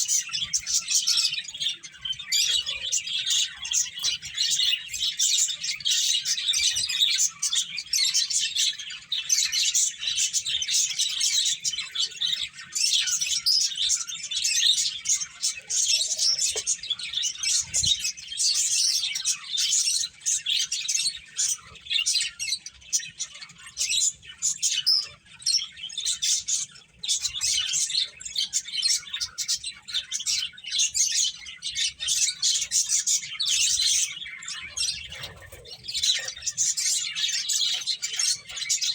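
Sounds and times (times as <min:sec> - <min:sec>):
finches chirping: 0:00.0 - 0:38.9.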